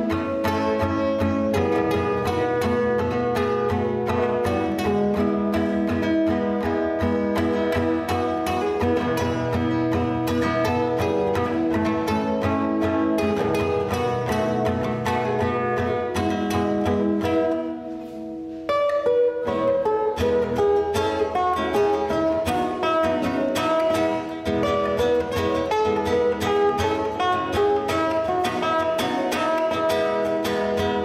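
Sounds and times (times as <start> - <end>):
acoustic guitars playing: 0.0 - 31.0.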